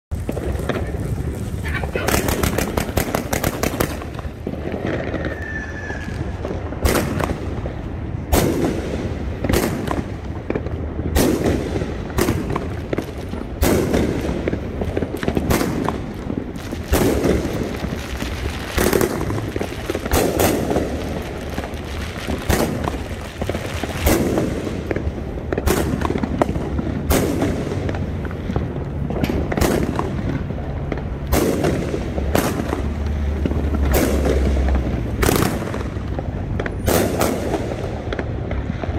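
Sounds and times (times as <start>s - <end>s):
firework cake crackling volley: 0.1s - 38.9s
firework shots launching and bursting: 0.1s - 38.9s.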